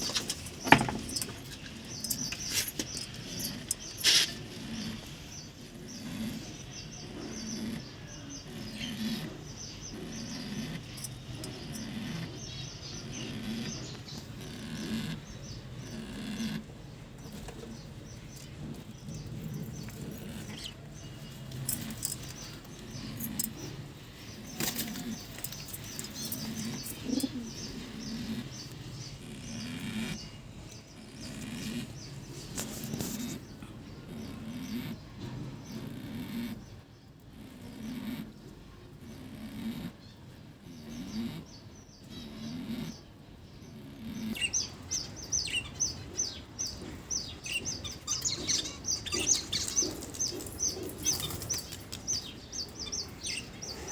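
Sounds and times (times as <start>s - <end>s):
finches chirping: 0.0s - 37.1s, 40.0s - 53.9s
pigeons cooing: 0.0s - 53.9s.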